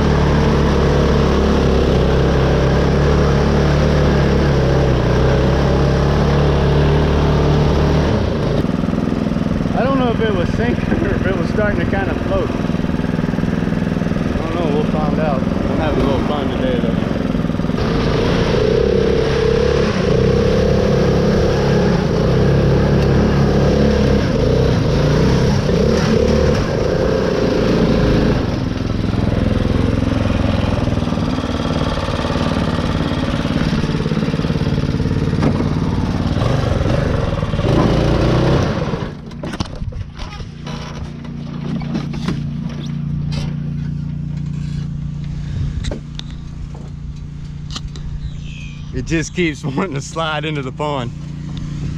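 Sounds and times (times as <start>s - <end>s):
mower engine running: 0.0s - 51.9s.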